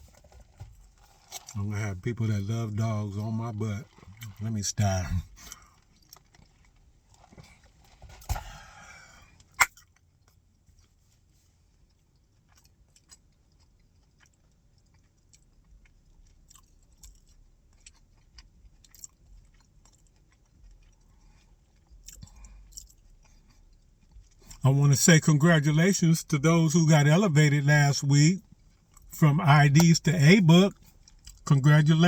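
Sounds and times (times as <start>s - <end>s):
person chewing and crunching: 0.0s - 32.0s.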